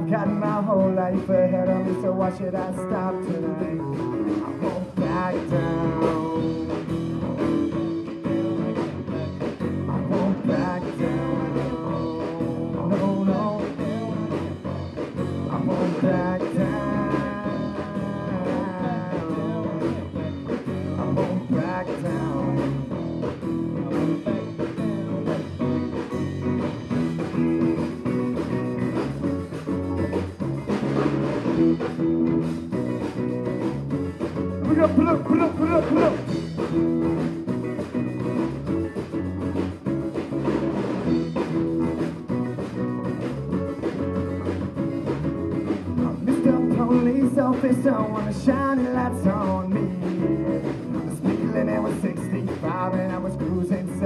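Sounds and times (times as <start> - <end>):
acoustic guitar: 0.0 - 54.0
bass guitar: 0.0 - 54.0
drum kit beat: 0.0 - 54.0
electric guitar: 0.0 - 54.0.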